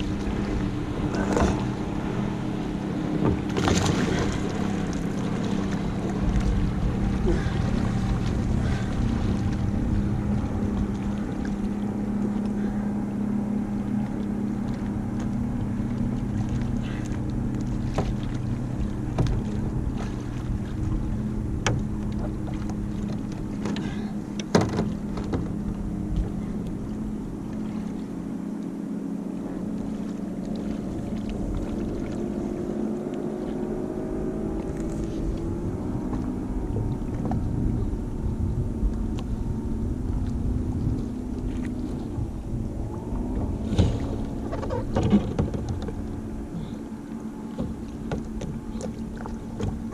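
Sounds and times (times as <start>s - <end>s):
boat engine humming: 0.0s - 49.9s.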